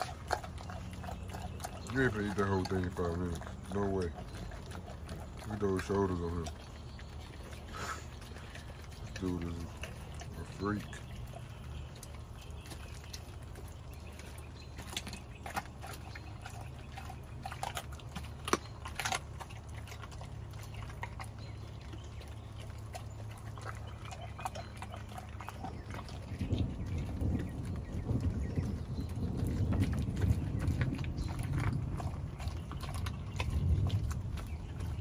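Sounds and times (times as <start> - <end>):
dog chewing raw chicken: 0.0 - 35.0.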